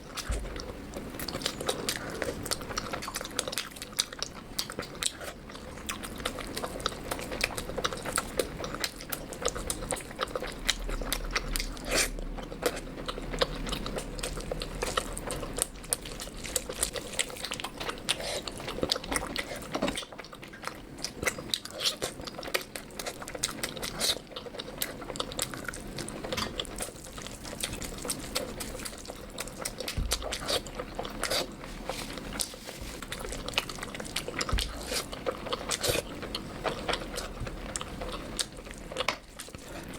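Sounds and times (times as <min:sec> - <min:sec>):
wet chewing and mouth smacking: 0:00.0 - 0:39.9.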